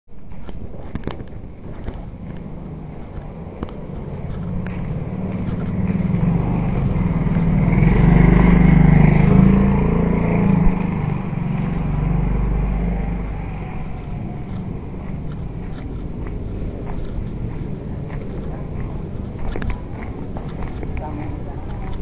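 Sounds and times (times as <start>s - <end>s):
vehicle engine passing: 1.6s - 22.0s.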